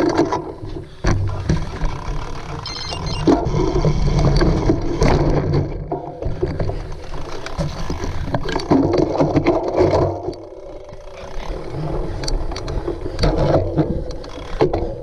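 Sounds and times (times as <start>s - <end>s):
bike rattling and scraping: 0.0s - 15.0s.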